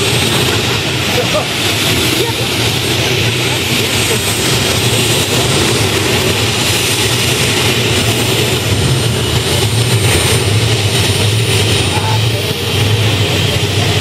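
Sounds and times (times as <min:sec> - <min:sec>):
turboshaft engine running: 0:00.0 - 0:14.0.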